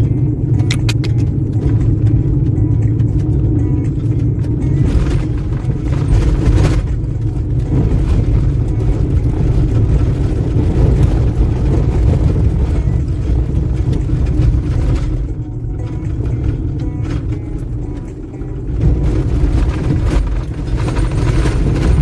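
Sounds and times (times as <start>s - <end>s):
engine and tyre rumble: 0.0s - 22.0s
vehicle rattles and knocks: 0.0s - 22.0s.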